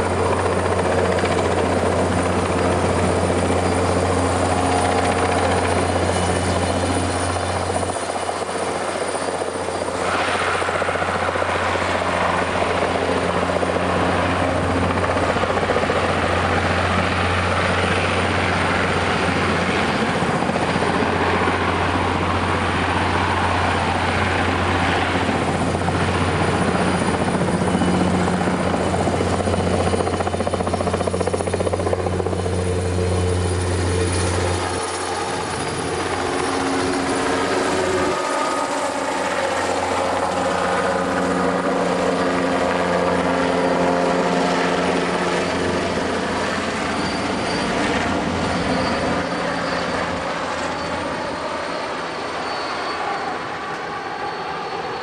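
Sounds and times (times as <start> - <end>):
helicopter flying overhead: 0.0 - 55.0.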